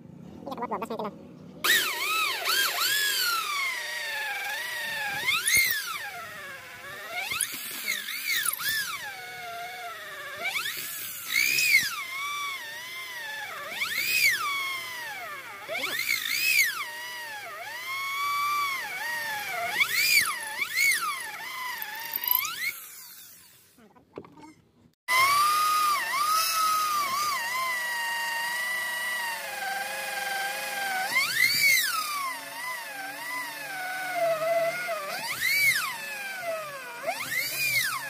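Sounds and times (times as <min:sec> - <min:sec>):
power tool motor whining: 0:01.6 - 0:38.0.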